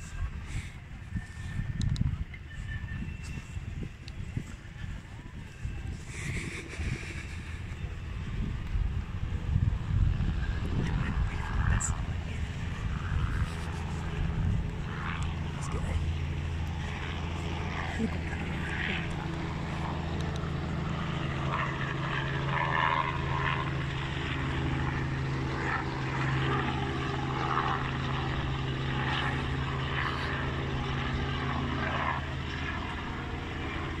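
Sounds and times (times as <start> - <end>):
faint voices talking: 0.0 - 34.0
low mechanical drone: 0.0 - 34.0.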